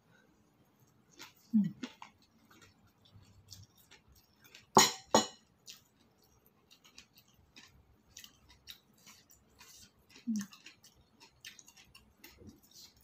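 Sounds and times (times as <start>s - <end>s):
person chewing: 0.4s - 13.0s.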